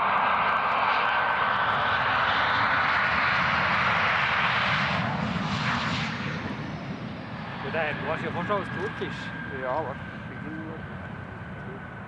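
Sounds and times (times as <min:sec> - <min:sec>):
high jet engine whine: 0:00.0 - 0:12.0
jet engines rushing: 0:00.0 - 0:12.0.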